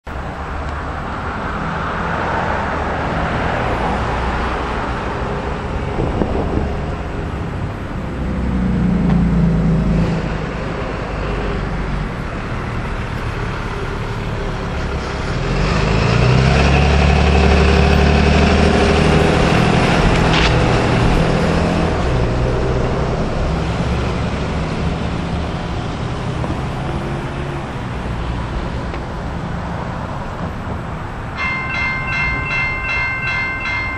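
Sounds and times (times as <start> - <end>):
passing car traffic rumble: 0.1 - 33.9.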